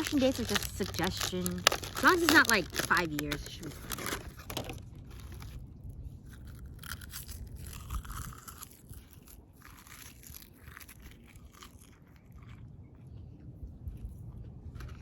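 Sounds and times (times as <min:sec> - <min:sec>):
crunching dried seaweed snack: 0:00.0 - 0:13.2.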